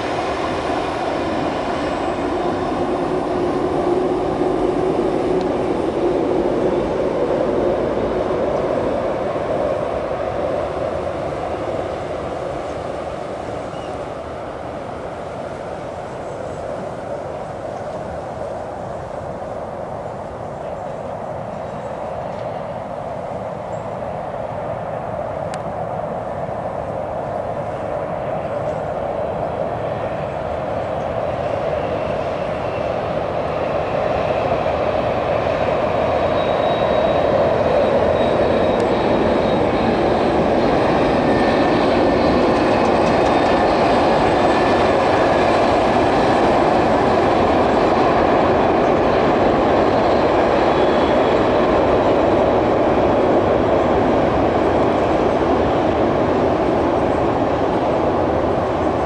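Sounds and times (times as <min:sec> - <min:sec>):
diesel train crossing bridge: 0:00.0 - 0:59.0.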